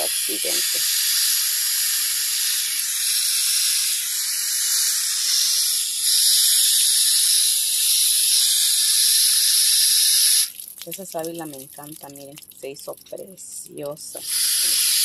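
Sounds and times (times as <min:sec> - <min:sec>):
hose nozzle spraying water: 0:00.0 - 0:15.0.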